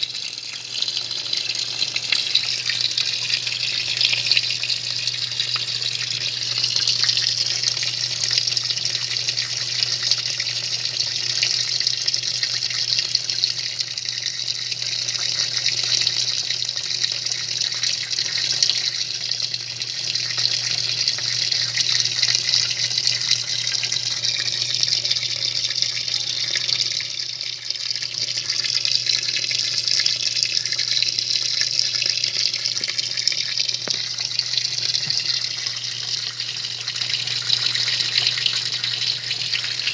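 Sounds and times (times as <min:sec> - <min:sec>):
water churning in washing machine: 0:00.0 - 0:39.9.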